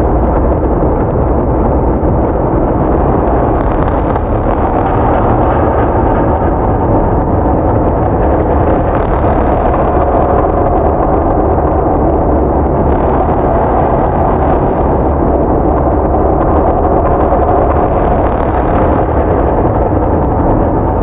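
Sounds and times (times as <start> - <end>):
dense low drone: 0.0 - 21.0.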